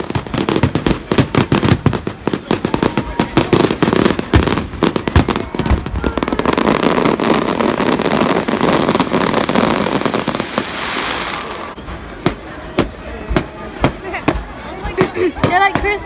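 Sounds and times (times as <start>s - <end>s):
fireworks hiss: 0.0s - 14.4s
fireworks bangs: 0.0s - 16.0s
fireworks cracking and crackling: 0.0s - 16.0s.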